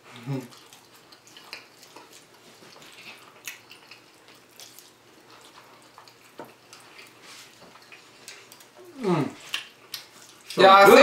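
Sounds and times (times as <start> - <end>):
wet chewing: 0.0 - 10.7.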